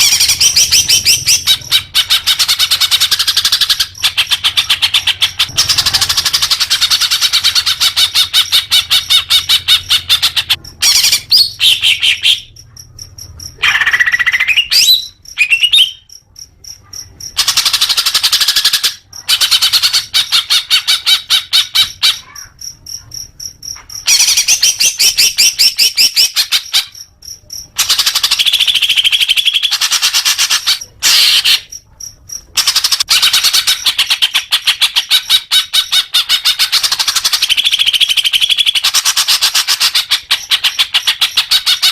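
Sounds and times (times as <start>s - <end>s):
bird chirping rapidly: 0.0s - 16.2s, 16.8s - 41.9s.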